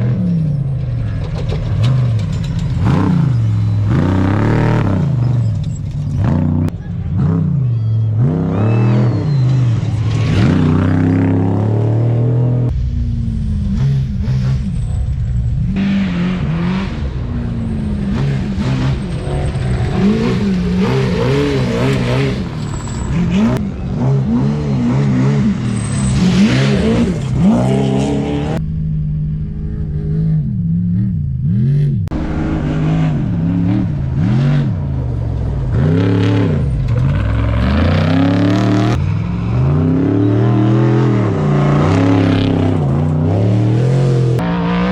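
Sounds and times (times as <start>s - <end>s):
truck engines revving past: 0.0s - 44.9s.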